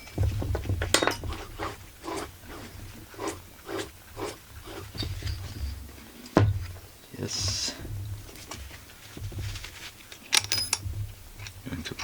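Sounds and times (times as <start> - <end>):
chainsaw parts rubbing and scraping: 0.0 - 12.0
steady low hum: 0.0 - 12.0.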